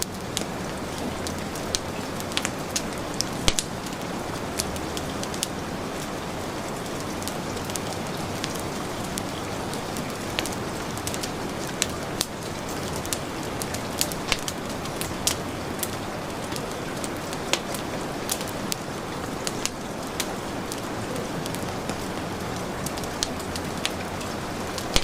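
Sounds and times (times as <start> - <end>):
heavy rain falling: 0.0 - 25.0
wood fire crackling: 0.0 - 25.0.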